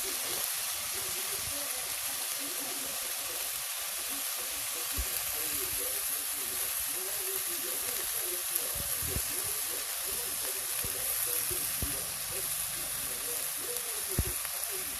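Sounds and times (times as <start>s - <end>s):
meat sizzling on a grill: 0.0s - 14.9s.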